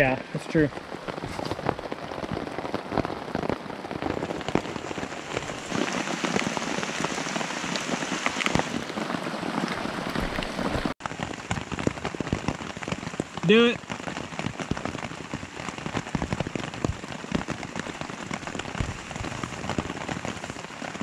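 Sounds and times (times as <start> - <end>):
rain pattering on shelter: 0.0 - 21.0.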